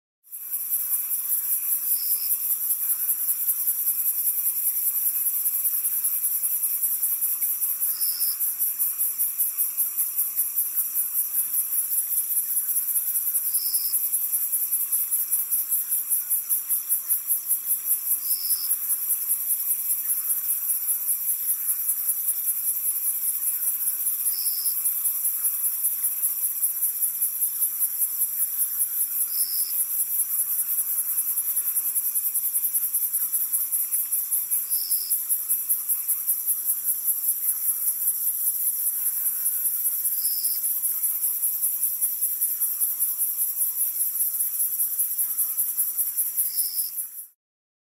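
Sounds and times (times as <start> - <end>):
high-pitched insect chorus pulsing: 0.3 - 47.3
short lower insect chirp: 0.3 - 47.4.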